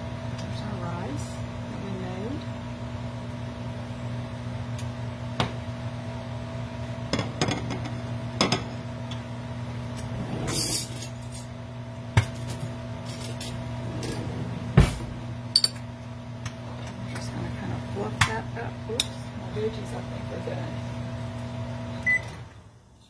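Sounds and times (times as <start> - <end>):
steady low hum: 0.0 - 22.2.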